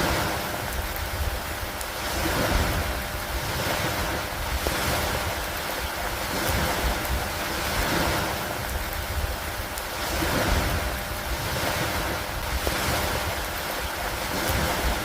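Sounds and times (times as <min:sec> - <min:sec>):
lake water: 0:00.0 - 0:15.0
steady rain: 0:00.0 - 0:15.0
wind rumble on microphone: 0:00.0 - 0:15.0.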